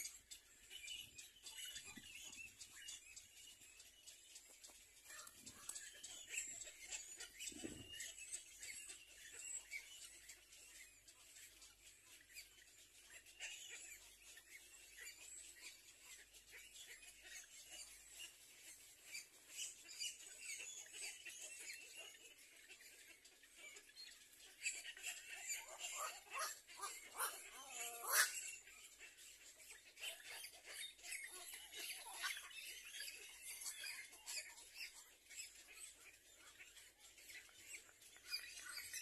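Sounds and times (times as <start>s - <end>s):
faint bird chirps: 0.0s - 39.0s.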